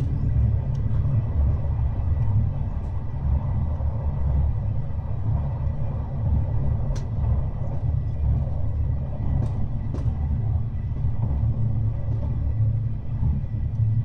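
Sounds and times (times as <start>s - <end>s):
train car low rumble: 0.0s - 14.0s.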